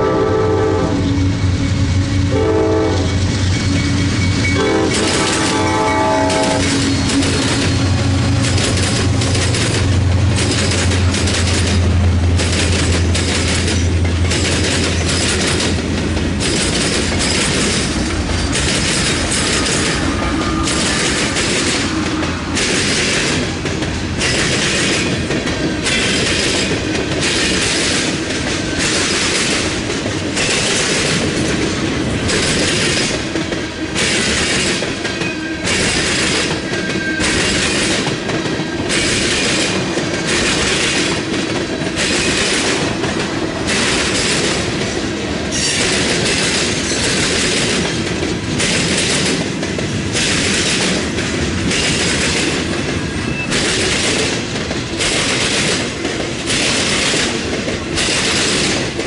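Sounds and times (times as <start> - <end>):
freight train rumble: 0.0 - 59.0
train wheels clattering: 0.9 - 59.0.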